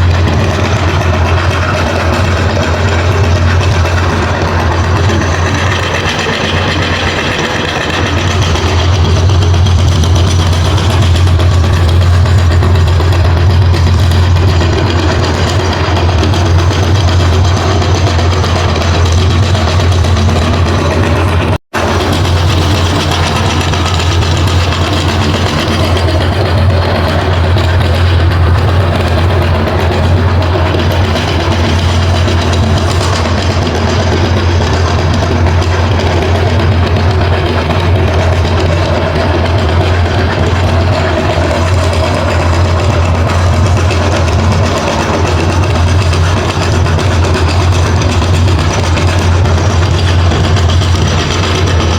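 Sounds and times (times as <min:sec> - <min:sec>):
meat grinder humming: 0:00.0 - 0:51.9.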